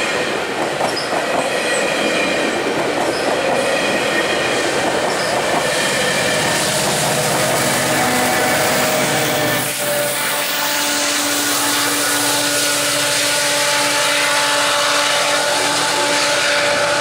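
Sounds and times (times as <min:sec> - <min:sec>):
diesel locomotive droning: 0:00.0 - 0:17.0.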